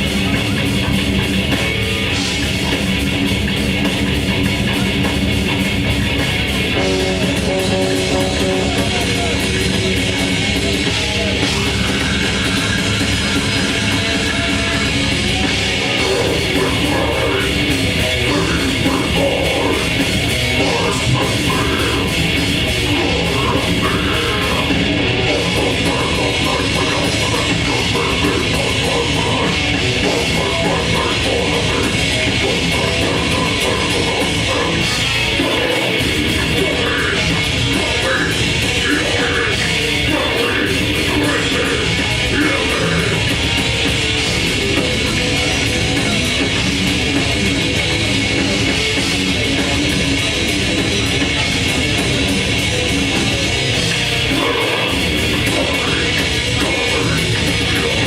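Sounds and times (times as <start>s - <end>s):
distorted electric guitars: 0.0s - 58.0s
drum kit: 0.0s - 58.0s.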